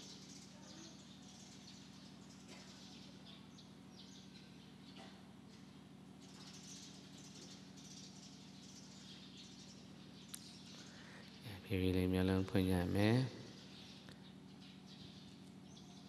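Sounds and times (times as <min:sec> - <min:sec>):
faint birds chirping: 0:00.0 - 0:16.0
steady low hum: 0:00.0 - 0:16.0.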